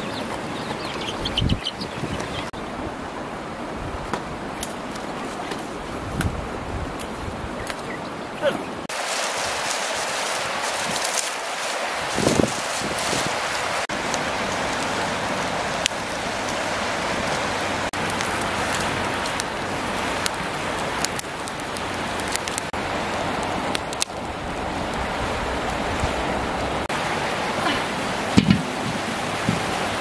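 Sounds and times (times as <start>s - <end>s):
river rushing: 1.8s - 30.0s.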